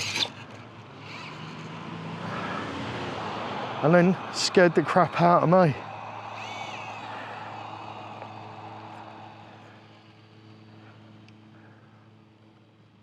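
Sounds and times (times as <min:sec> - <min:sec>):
distant motorbike engines: 0:00.0 - 0:13.0
steady low hum: 0:00.0 - 0:13.0.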